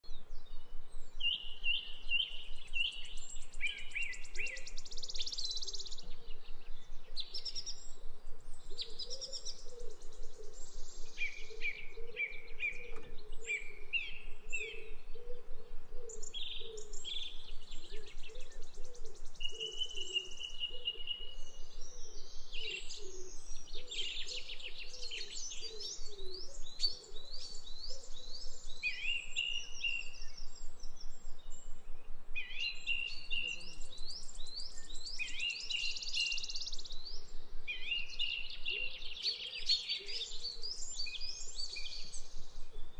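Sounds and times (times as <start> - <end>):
forest birds chirping: 0.0 - 42.9.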